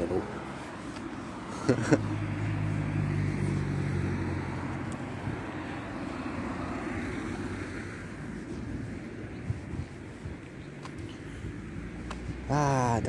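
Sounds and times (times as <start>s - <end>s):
rushing noise of passing vehicle: 0.0s - 13.0s
vehicle engine hum: 0.0s - 13.0s.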